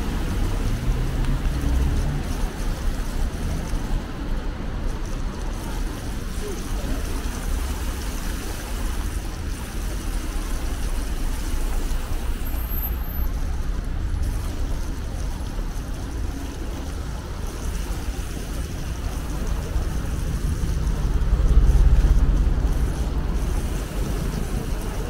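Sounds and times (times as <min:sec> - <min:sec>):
city traffic rumble: 0:00.0 - 0:25.0.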